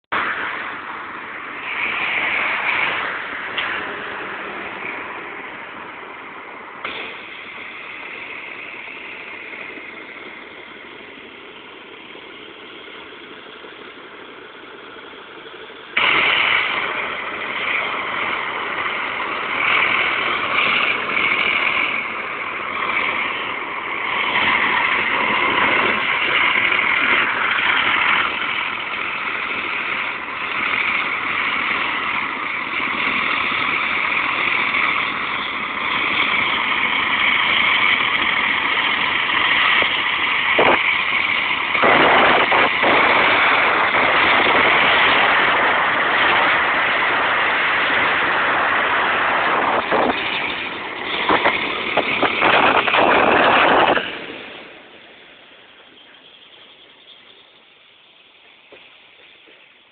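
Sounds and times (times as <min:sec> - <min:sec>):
loud rushing noise: 0:00.1 - 0:13.7, 0:14.4 - 0:56.6
distant diesel locomotive engines: 0:00.1 - 0:59.9.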